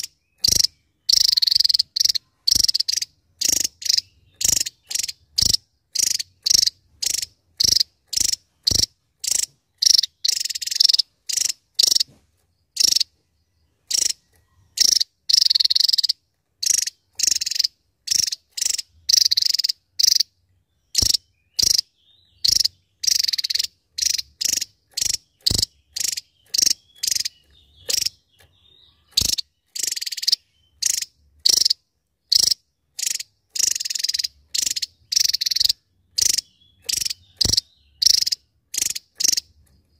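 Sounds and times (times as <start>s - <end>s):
bird singing high sharp notes: 0.0s - 12.1s, 14.8s - 39.7s.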